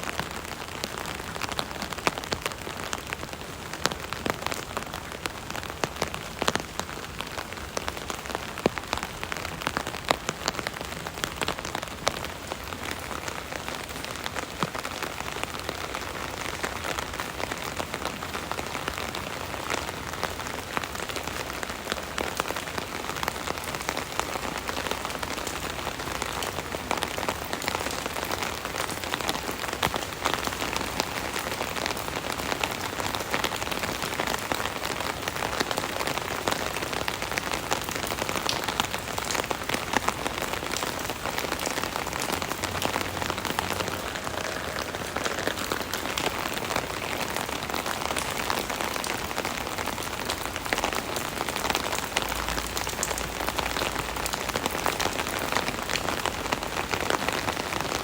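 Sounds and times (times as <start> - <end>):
rain hiss: 0.0 - 58.0
rain pattering on umbrella: 0.0 - 58.0.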